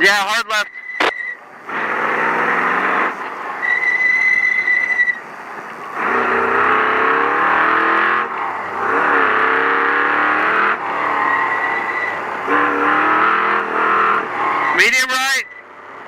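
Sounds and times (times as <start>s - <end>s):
truck engine revving hard: 1.0s - 16.0s.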